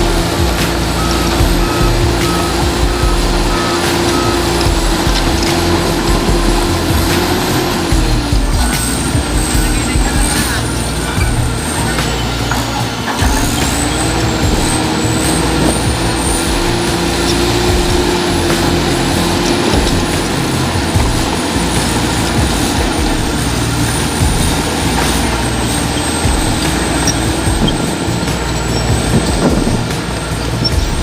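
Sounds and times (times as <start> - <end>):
bulldozer diesel engine rumbling: 0.0 - 31.0.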